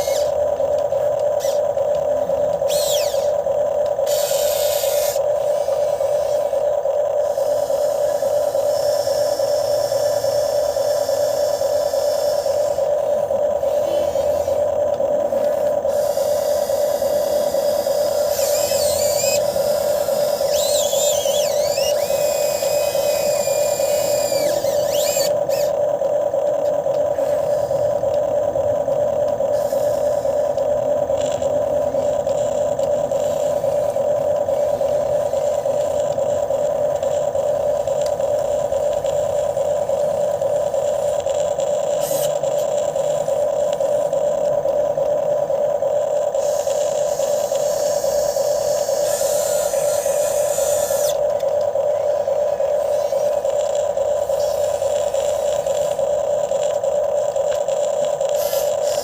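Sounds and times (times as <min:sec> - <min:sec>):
electric pump motor whine: 0:00.0 - 0:59.0.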